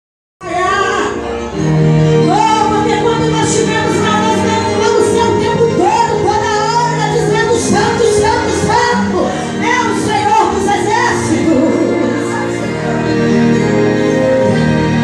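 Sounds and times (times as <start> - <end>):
gospel song: 0.4 - 15.0.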